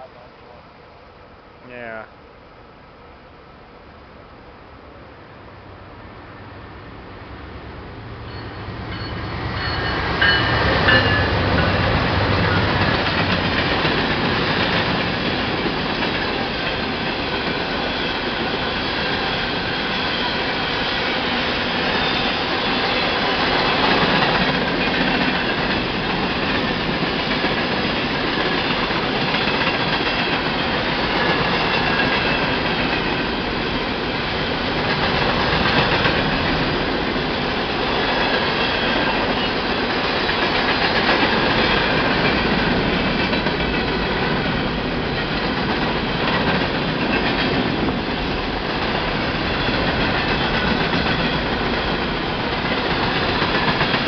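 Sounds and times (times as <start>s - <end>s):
diesel locomotive passing: 0.0s - 54.0s
freight cars rolling on rails: 7.4s - 54.0s.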